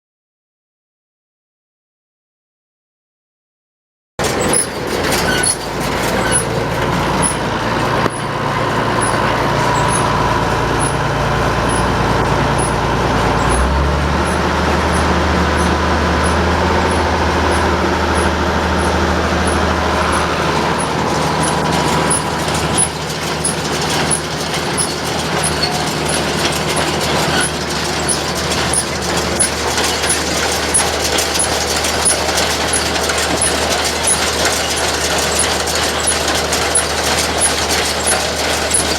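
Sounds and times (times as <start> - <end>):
tractor engine running: 4.2 - 38.9
baler running: 4.4 - 38.9.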